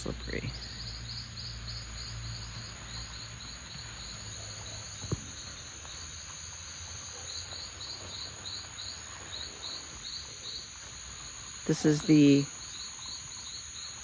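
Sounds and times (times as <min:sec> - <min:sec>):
insects buzzing: 0:00.0 - 0:14.0
pulsed insect chirping: 0:00.0 - 0:14.0.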